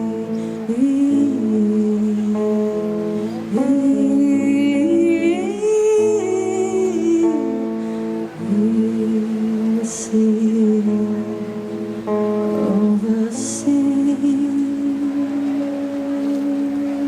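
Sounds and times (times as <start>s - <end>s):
instrumental accompaniment: 0.0s - 17.0s
woman singing wordless vocal: 0.0s - 17.0s.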